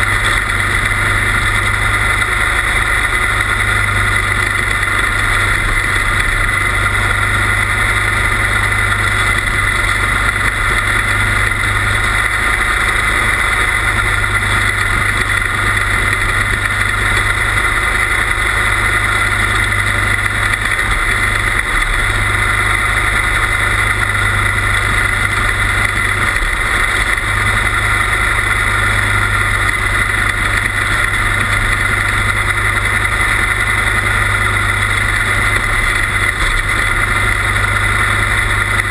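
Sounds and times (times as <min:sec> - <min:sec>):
small race car engine running: 0:00.0 - 0:38.9.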